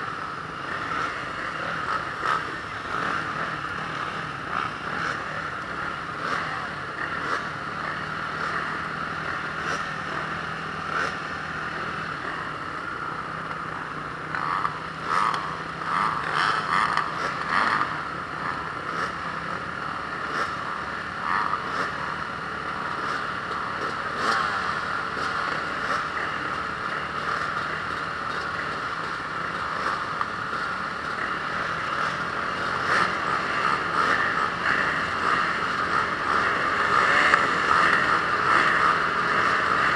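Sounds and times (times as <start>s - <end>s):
motocross engine running hard: 0.0s - 39.9s.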